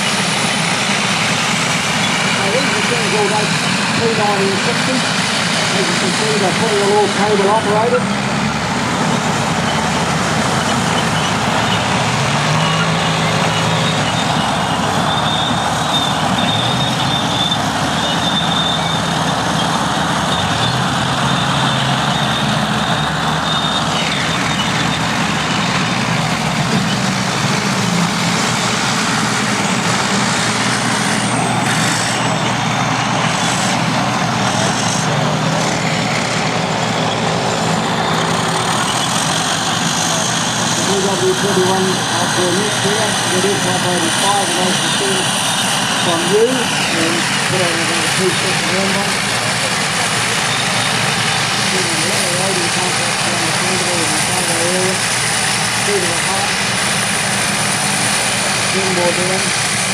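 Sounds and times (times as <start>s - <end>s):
bulldozer engines running: 0.0s - 59.9s.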